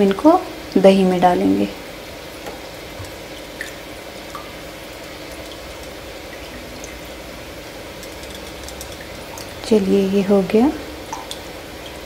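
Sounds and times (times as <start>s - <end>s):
steady background hum: 0.0s - 12.0s
water dripping: 0.0s - 12.0s.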